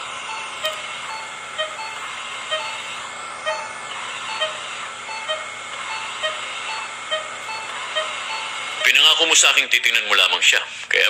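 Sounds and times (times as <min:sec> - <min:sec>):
patient monitor beeping: 0:00.0 - 0:10.5.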